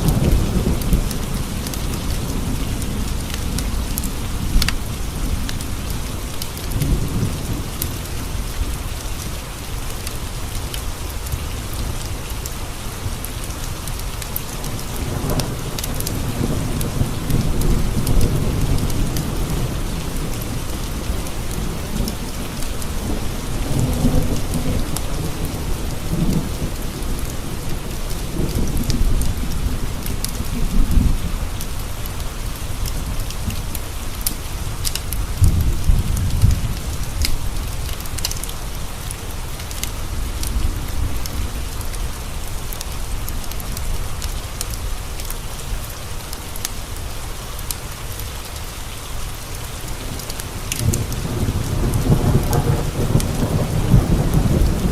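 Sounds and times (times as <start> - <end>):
thunder rumbling: 0.0 - 9.0, 11.2 - 45.9, 50.1 - 54.9
rain pattering on windowpanes: 0.0 - 54.9.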